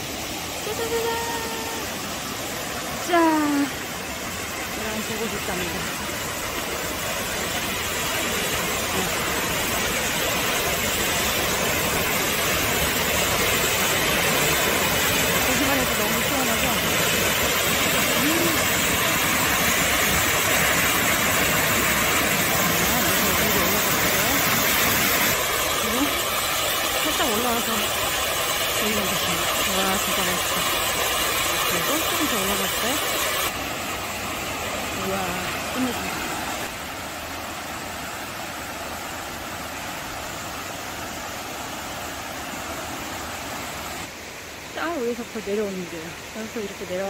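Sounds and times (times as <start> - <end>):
small waterfall splashing into pool: 0.0 - 47.0
stream rushing over rock: 0.0 - 47.0.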